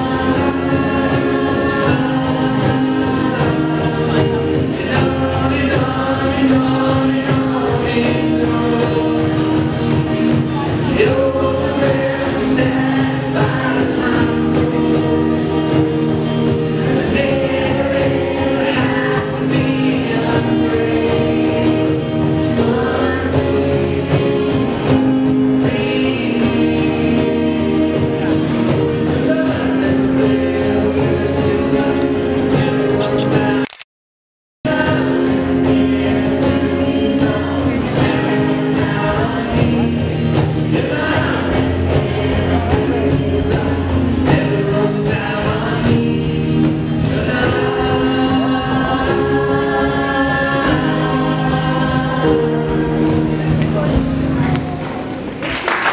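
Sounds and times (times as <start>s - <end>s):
cajon: 0.0s - 33.6s, 34.7s - 55.9s
young voices singing together: 0.0s - 33.6s, 34.7s - 55.9s
strummed acoustic guitars: 0.0s - 33.7s, 34.7s - 55.8s
keyboard: 0.0s - 33.8s, 34.7s - 55.9s.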